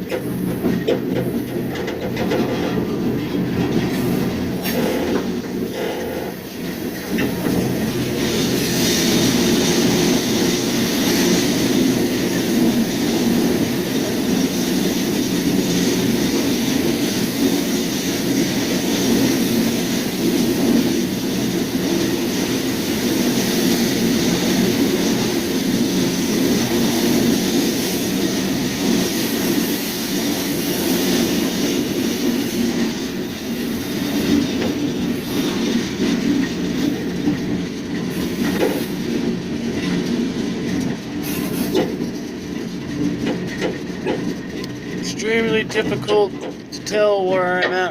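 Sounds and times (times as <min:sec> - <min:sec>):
train wheels rumbling and rattling: 0:00.0 - 0:47.9.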